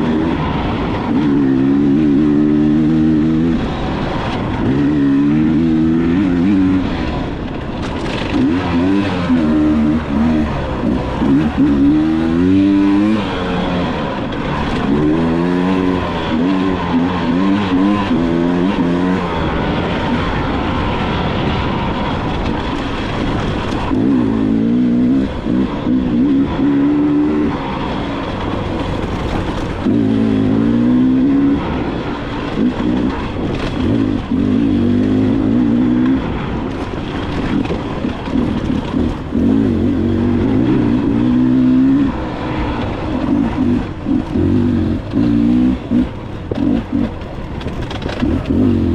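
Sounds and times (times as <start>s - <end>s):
dirt bike engine revving: 0.0s - 48.9s
steady rushing noise: 0.0s - 48.9s.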